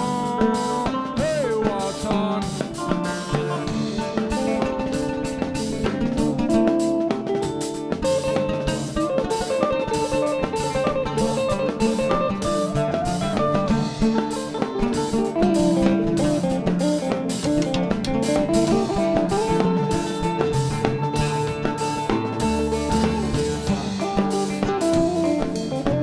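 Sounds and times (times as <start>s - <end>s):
drum kit: 0.0s - 26.0s
electric guitar: 0.0s - 26.0s
oud plucked with a plectrum: 0.0s - 26.0s.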